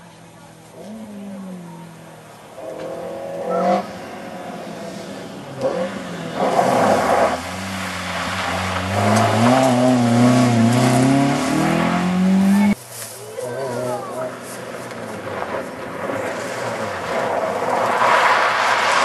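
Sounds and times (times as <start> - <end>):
rally car engine revving: 0.7 - 12.8, 14.6 - 19.0.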